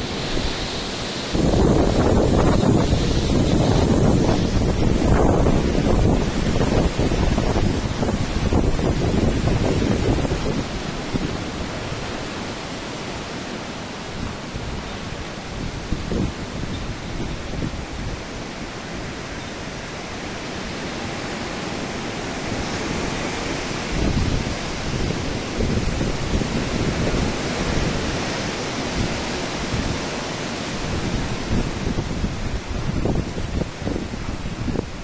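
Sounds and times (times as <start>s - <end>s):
heavy wind blowing in gusts: 0.0s - 35.0s
wind buffeting microphone: 0.0s - 35.0s.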